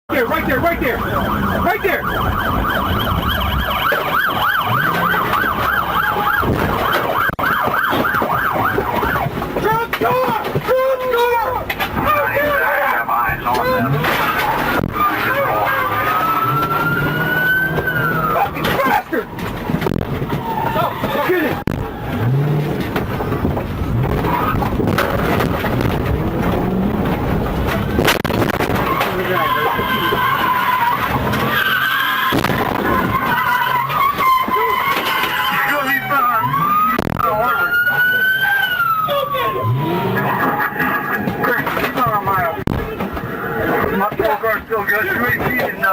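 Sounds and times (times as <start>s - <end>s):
engine and road noise: 0.0s - 45.9s
police siren yelping: 0.1s - 45.9s.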